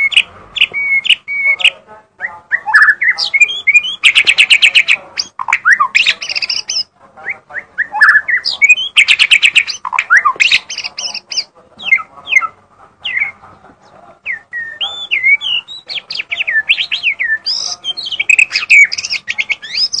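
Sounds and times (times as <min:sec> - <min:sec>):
bird singing whistled notes: 0:00.0 - 0:06.9, 0:07.6 - 0:13.4, 0:14.2 - 0:20.0.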